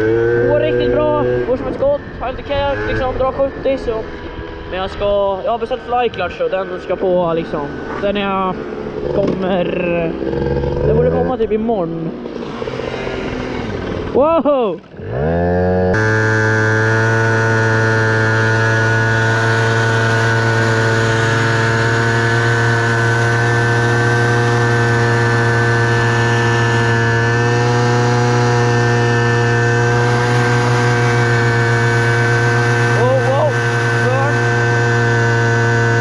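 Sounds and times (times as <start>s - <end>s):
scooter engine at high revs: 0.0s - 14.2s, 14.9s - 36.0s.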